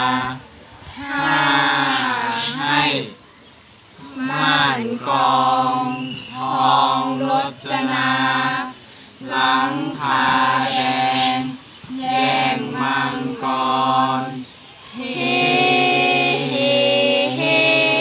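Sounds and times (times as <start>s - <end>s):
group chanting: 0.0s - 3.2s, 4.0s - 18.0s.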